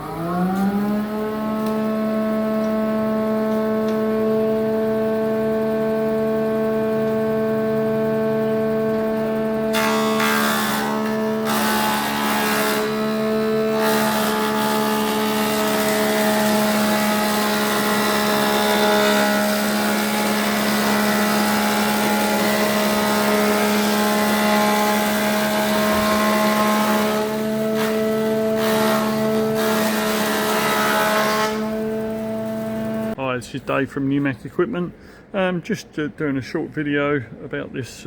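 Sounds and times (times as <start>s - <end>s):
jointer planer running: 0.0s - 33.2s.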